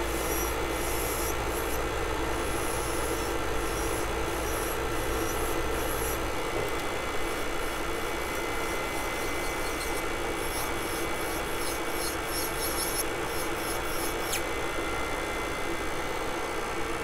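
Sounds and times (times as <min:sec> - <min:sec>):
nail drill grinding fingernail: 0:00.0 - 0:14.5
motor hum: 0:00.0 - 0:17.0.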